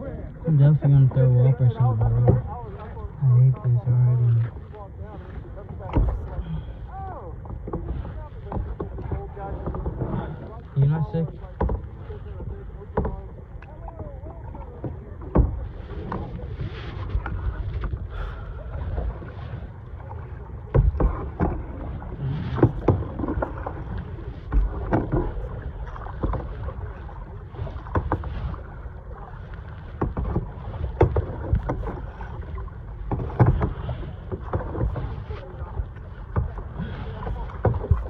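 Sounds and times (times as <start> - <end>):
paddle splashes and hull knocks: 0.0 - 38.0
water noise: 0.0 - 38.0
wind rumbling on microphone: 0.0 - 38.0.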